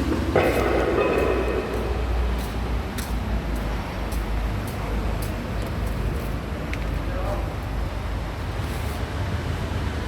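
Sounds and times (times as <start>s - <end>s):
vehicle road rumble: 0.0s - 10.0s.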